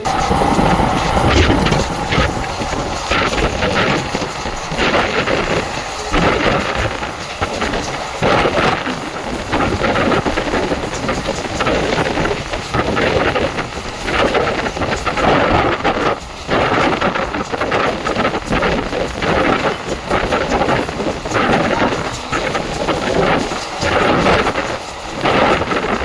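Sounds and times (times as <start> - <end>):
train coach rumble and rattle: 0.0 - 26.0.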